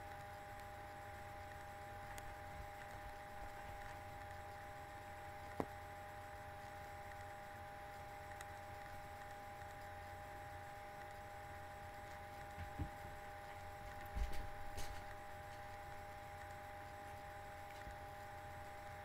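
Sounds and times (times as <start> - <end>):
faint steady whine: 0.0 - 19.0
low hum and hiss: 0.0 - 19.0.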